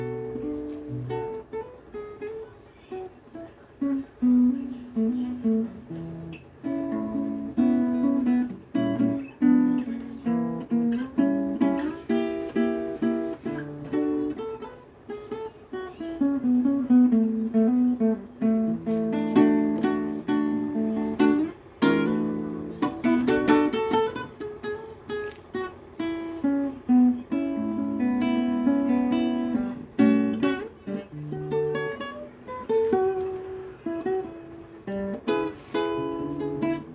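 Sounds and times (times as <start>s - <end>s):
solo guitar playing: 0.0s - 36.9s.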